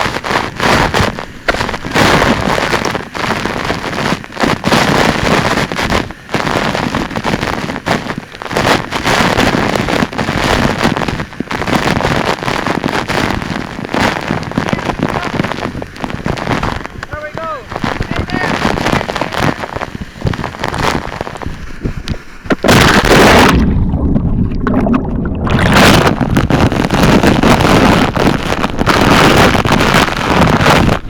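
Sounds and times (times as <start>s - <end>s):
waterfall rushing and splashing: 0.0s - 31.0s.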